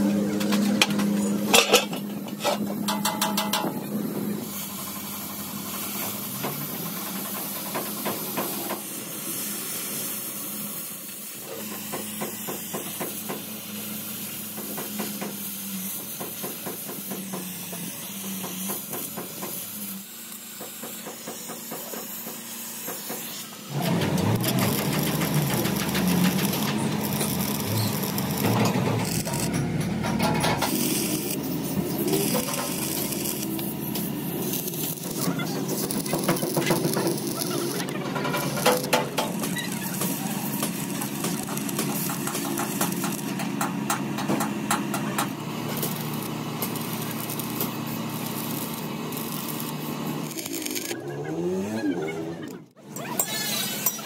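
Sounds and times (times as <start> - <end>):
gas torch hissing: 1.4 - 29.5, 30.5 - 51.0
arc welding crackle: 1.5 - 51.0.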